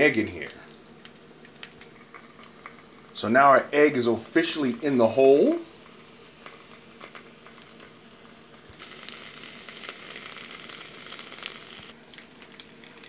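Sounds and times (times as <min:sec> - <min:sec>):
bread and egg sizzling in pan: 0:00.0 - 0:13.0.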